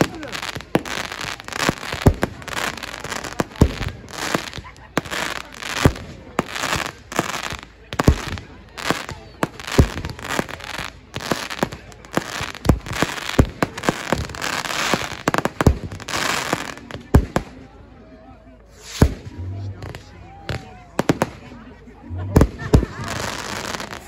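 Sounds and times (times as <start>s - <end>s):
firework crackling: 0.0s - 17.7s, 18.7s - 24.0s.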